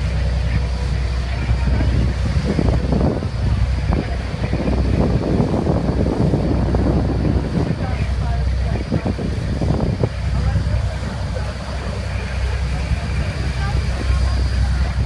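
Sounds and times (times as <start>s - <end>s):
boat engine drone: 0.0s - 15.0s
water rushing along hull: 0.0s - 15.0s
wind buffeting microphone: 0.0s - 15.0s.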